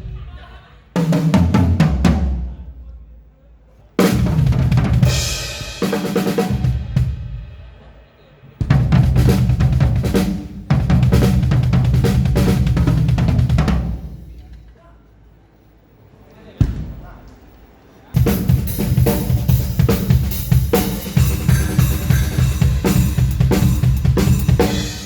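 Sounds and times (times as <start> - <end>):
drum kit beats and fills: 0.0 - 3.0, 4.0 - 14.6, 18.2 - 25.0.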